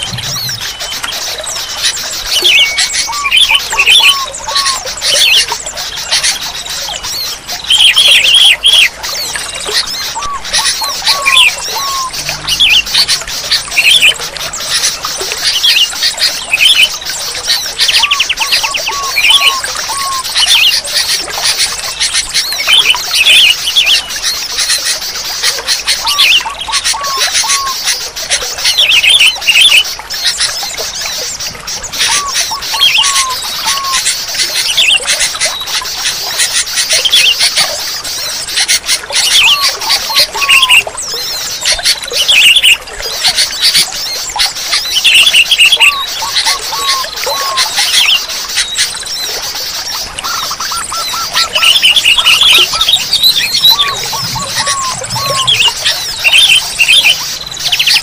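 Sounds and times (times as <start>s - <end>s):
bird calling clear notes: 0.0s - 25.0s, 25.6s - 58.0s
busy high twittering: 0.0s - 58.0s.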